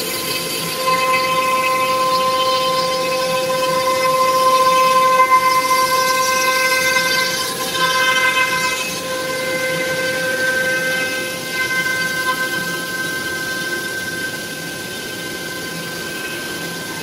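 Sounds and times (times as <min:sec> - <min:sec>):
milling spindle whining: 0:00.0 - 0:17.0.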